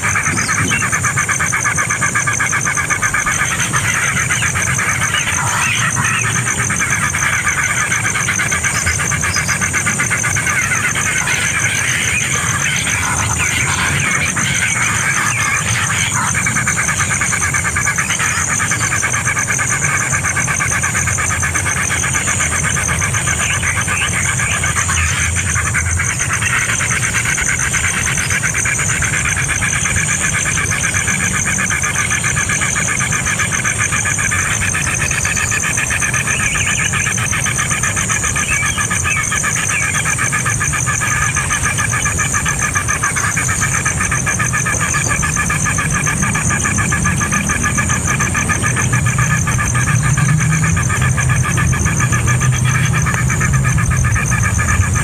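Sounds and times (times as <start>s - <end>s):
baby birds cheeping: 0.0s - 55.0s
constant high buzz: 0.0s - 55.0s.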